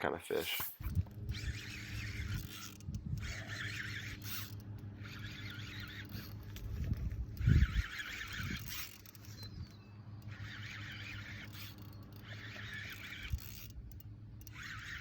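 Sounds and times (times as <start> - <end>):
fishing reel drag buzzing: 0.3 - 15.0.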